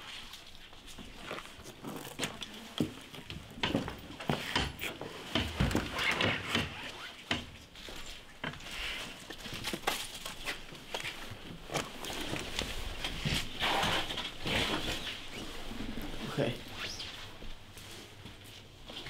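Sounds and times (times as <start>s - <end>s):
clothing rustling: 0.0s - 19.0s.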